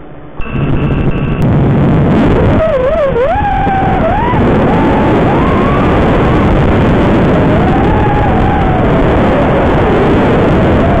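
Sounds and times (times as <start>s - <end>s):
drone motors whining: 0.4s - 11.0s
rush of prop wash and wind: 0.8s - 11.0s.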